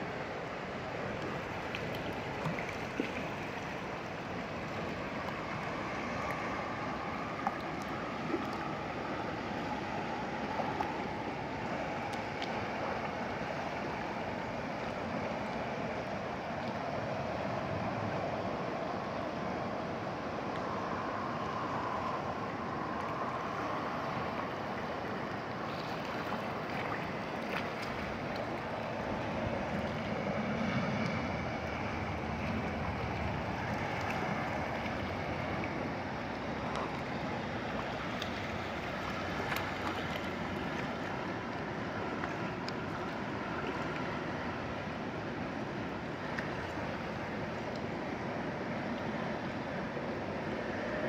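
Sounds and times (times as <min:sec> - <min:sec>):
river rushing over rocks: 0:00.0 - 0:51.0.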